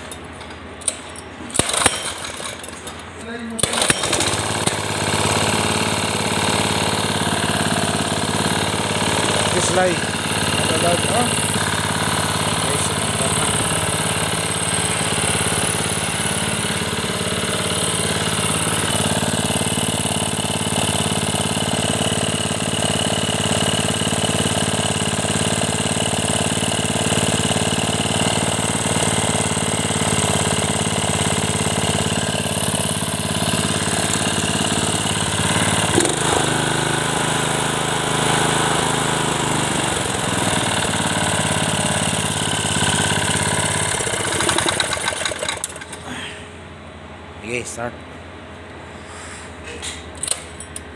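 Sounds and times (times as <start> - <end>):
small petrol engine running: 0.8 - 46.6
engine knock: 1.6 - 2.6, 3.6 - 36.8, 39.0 - 46.0.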